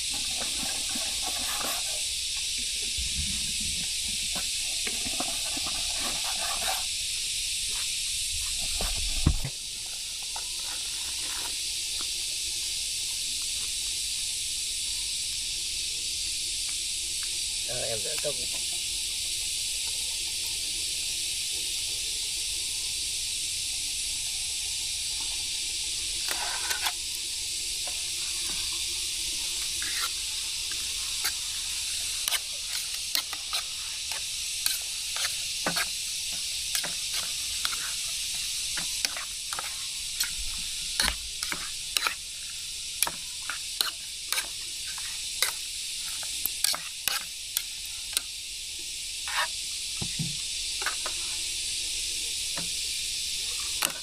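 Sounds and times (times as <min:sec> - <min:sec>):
fire hissing and crackling: 0:00.0 - 0:54.0.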